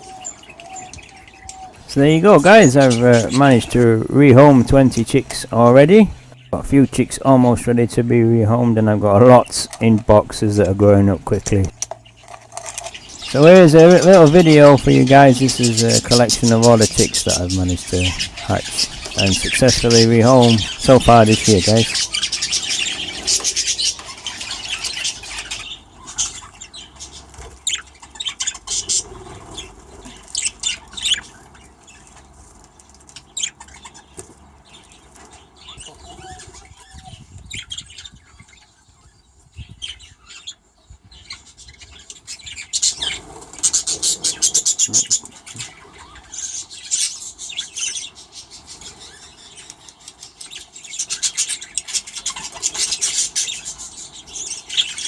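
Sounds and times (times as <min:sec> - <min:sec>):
budgies chirping and chattering: 0:00.0 - 0:55.0.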